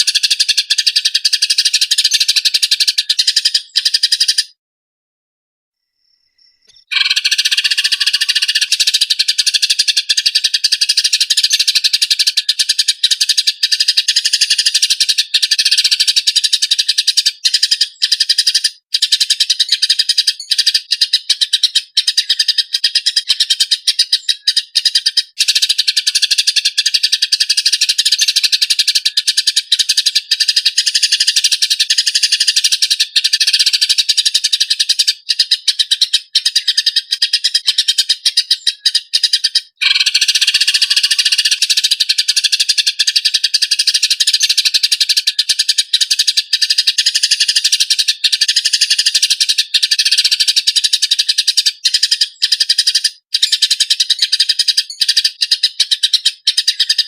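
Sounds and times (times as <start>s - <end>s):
sparrows chattering: 0.0s - 4.6s, 6.0s - 57.0s.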